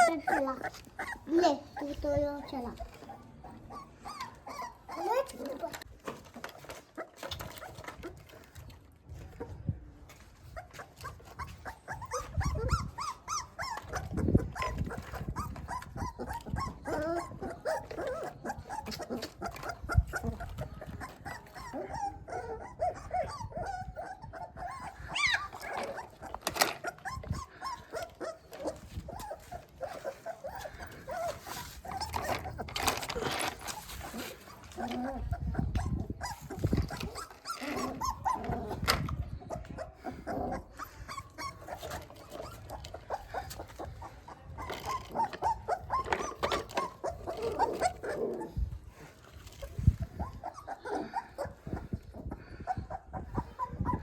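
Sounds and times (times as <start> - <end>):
puppy whimpering and whining: 0.0 - 8.6, 10.4 - 54.0.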